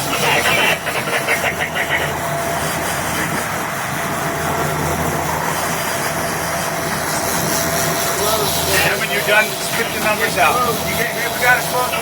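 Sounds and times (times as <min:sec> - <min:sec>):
boat engine running: 0:00.0 - 0:12.0
wind and water hiss: 0:00.0 - 0:12.0.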